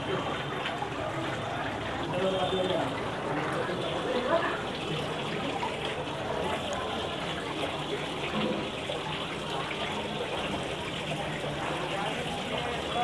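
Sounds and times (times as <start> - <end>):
small waterfall splashing into pond: 0.0 - 13.0.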